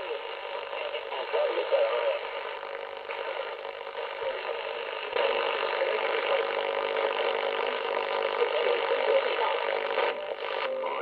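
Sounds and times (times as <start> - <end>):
radio hiss and static: 0.0 - 11.0
steady whistling radio tones: 0.0 - 11.0.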